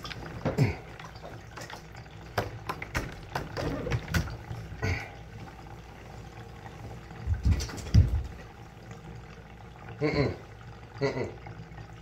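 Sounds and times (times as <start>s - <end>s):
water sloshing in bathtub: 0.0s - 12.0s.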